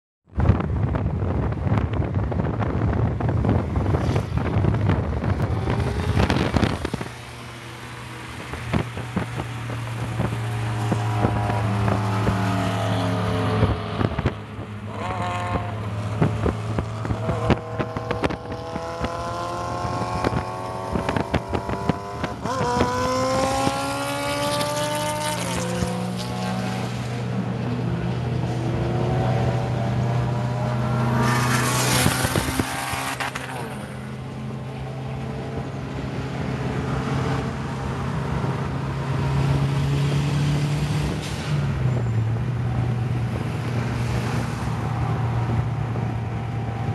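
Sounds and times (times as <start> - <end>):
moving car hum: 0.3 - 46.9
vehicles passing: 0.3 - 46.9
racing engines revving: 3.7 - 46.9.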